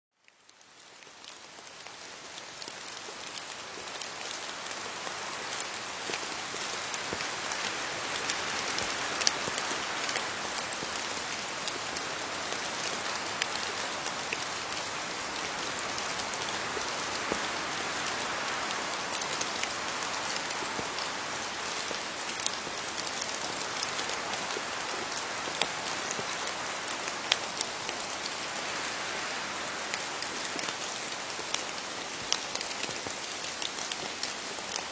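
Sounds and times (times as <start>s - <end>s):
rain falling on leaves: 0.1s - 34.9s.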